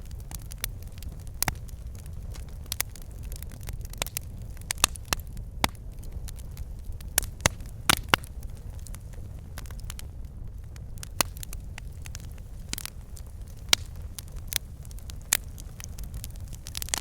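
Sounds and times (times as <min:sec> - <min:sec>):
logs crackling and popping: 0:00.0 - 0:17.0
low rumble of flame: 0:00.0 - 0:17.0.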